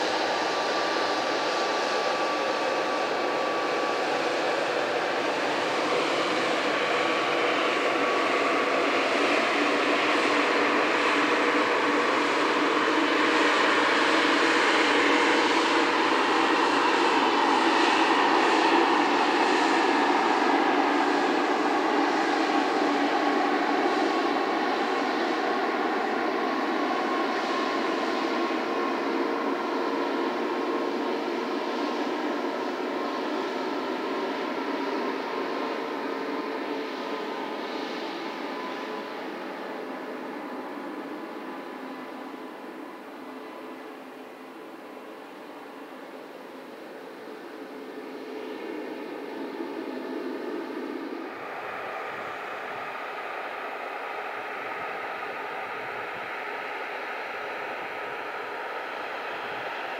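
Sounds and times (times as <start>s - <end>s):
jet engines taxiing: 0.0s - 59.9s.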